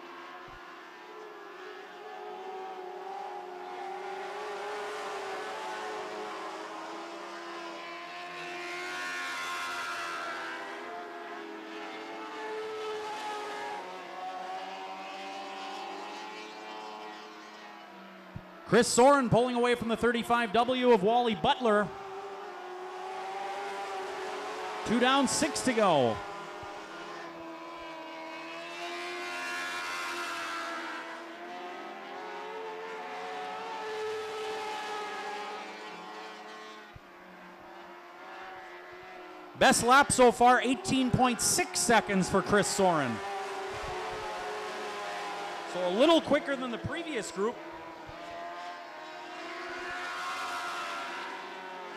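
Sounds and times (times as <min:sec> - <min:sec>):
racing car engines: 0:00.0 - 0:51.9.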